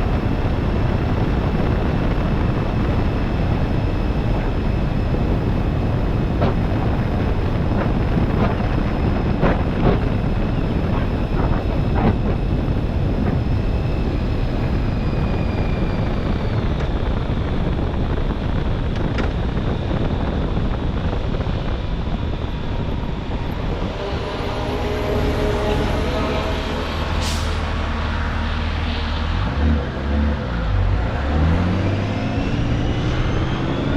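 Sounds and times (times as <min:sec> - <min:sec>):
vehicle road and engine rumble: 0:00.0 - 0:33.9
wind buffeting microphone: 0:00.0 - 0:33.9.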